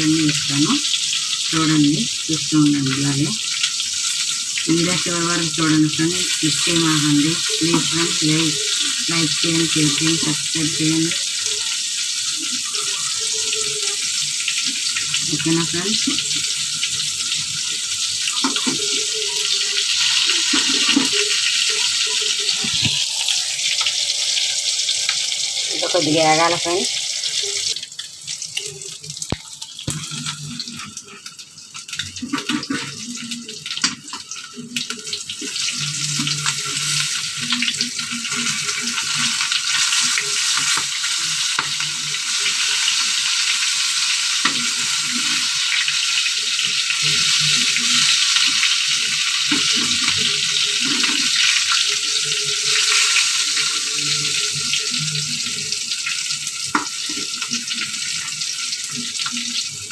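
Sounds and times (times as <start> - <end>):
fish sizzling in a pan: 0.0 - 59.9.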